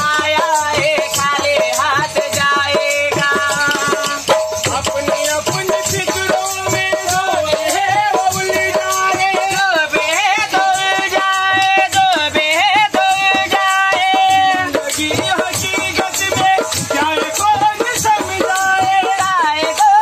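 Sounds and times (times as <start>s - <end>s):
hand drums rhythm: 0.0s - 20.0s
man singing folk song: 0.0s - 20.0s.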